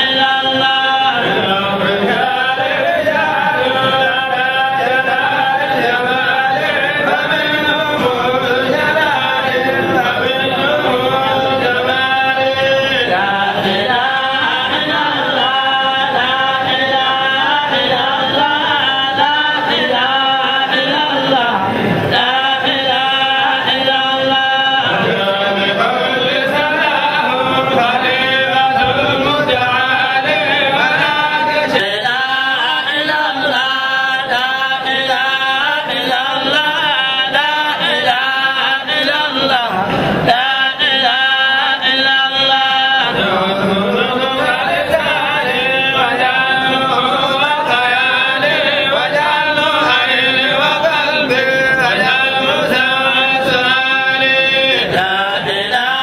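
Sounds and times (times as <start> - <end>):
lead voice on a microphone: 0.0 - 56.0
men chanting devotional songs: 0.0 - 56.0.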